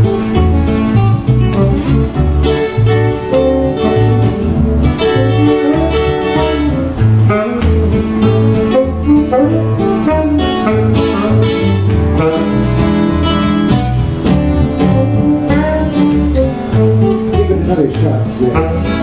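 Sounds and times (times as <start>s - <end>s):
acoustic guitars strumming: 0.0s - 19.0s
repeating bass line: 0.0s - 19.0s
saxophone melody: 0.0s - 19.0s.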